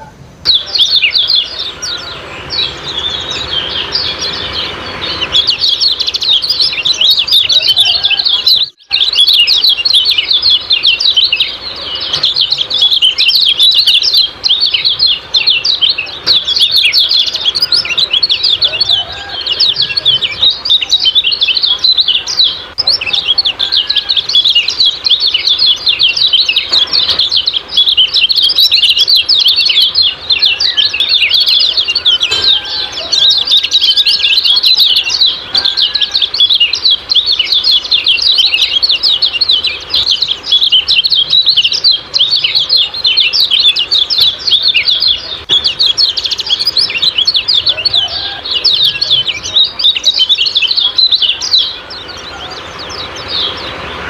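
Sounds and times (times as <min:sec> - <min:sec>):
songbird twittering: 0:00.0 - 0:54.0.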